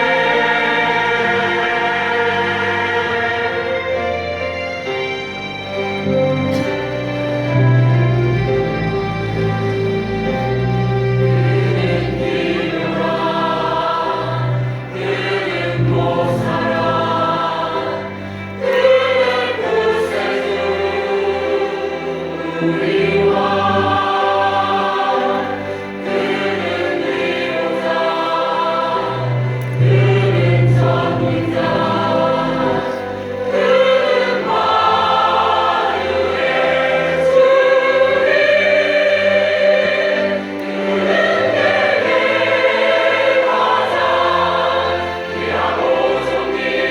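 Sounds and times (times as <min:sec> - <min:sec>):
church choir singing: 0:00.0 - 0:46.9.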